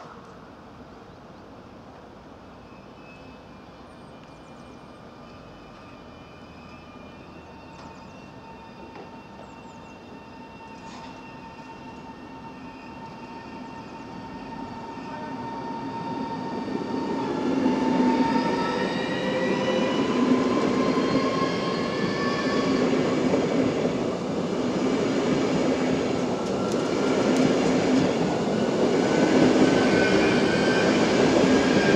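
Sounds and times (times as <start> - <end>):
train wheels rumbling on rail: 3.6 - 31.9.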